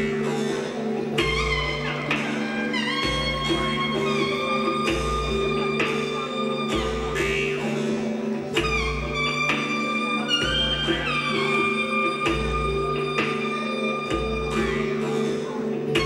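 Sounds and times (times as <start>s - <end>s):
deep bass beat: 0.0s - 16.0s
low drone: 0.0s - 16.0s
sliding held-note melody: 0.0s - 16.0s.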